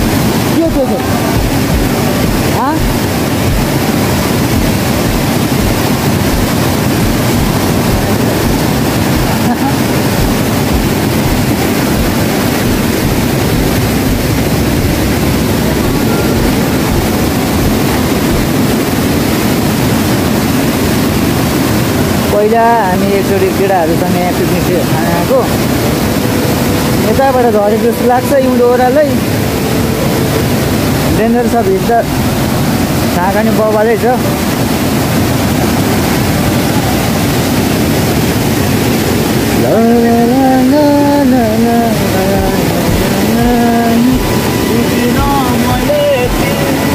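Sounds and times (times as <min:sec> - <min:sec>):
river rushing over rocks: 0:00.0 - 0:46.9
tune of long held notes: 0:00.0 - 0:46.9.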